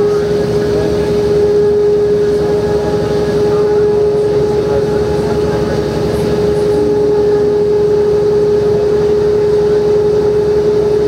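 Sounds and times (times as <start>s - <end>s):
bus diesel engine running: 0.0s - 11.0s
road rumble: 0.0s - 11.0s.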